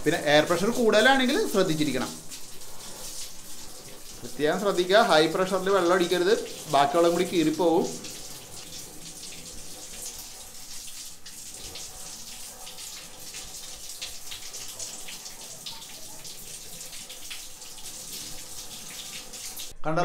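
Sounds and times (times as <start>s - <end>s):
water splashing on mesh filter: 0.0s - 19.7s.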